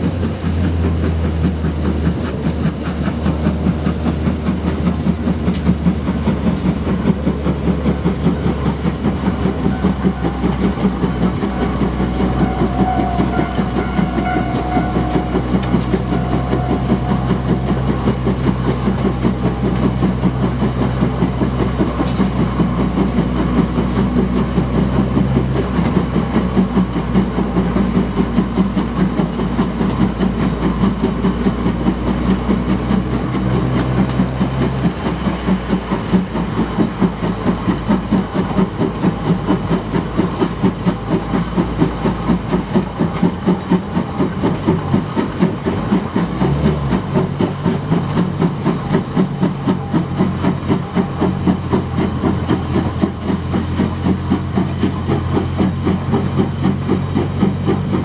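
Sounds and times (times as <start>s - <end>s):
low drone: 0.0s - 58.0s
steam locomotive chuffing: 0.0s - 58.0s.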